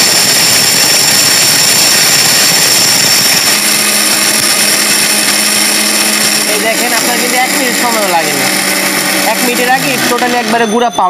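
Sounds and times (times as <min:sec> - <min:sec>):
mixer grinder motor whining: 0:00.0 - 0:11.0.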